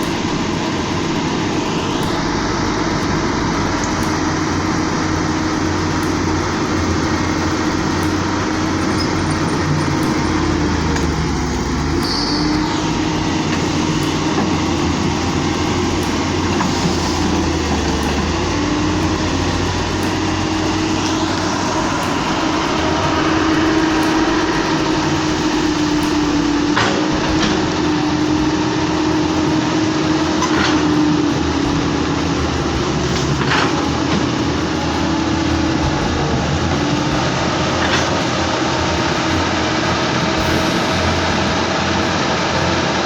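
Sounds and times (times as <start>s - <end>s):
excavator diesel engine droning: 0.0s - 43.0s.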